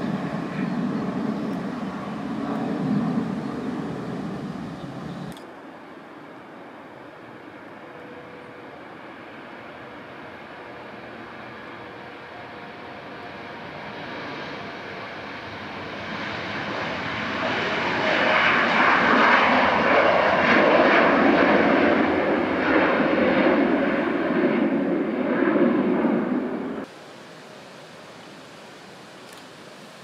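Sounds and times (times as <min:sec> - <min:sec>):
jet engines running at high power: 0:00.0 - 0:30.0.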